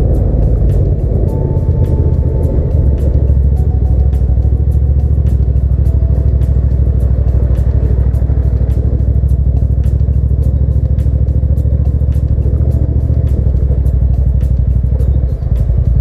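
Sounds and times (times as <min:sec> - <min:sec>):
motorcycle engine cruising: 0:00.0 - 0:16.0
music: 0:00.0 - 0:16.0.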